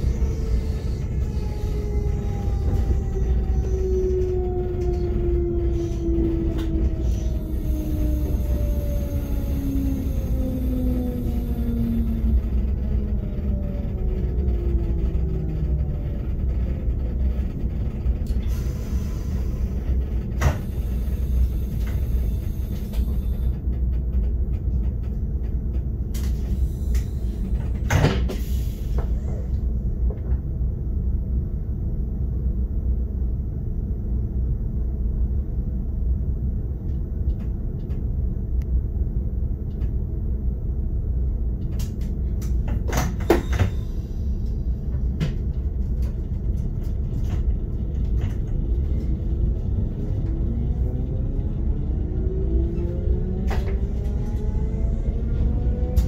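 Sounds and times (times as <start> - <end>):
electric train rumbling: 0.0 - 56.0.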